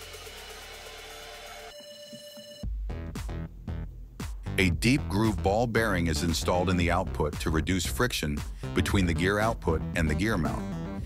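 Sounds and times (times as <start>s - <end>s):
soft background music: 1.7s - 11.0s.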